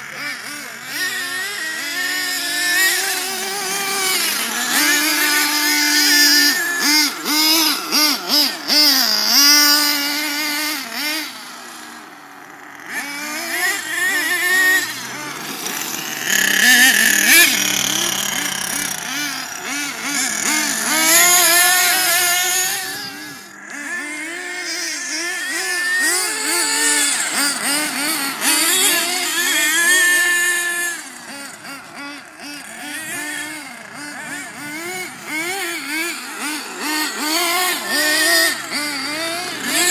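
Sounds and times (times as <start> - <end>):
small engines revving: 0.0 - 39.9.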